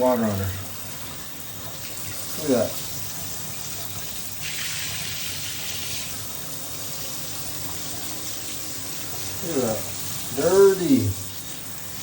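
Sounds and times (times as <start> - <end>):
running water splashing: 0.0 - 12.0.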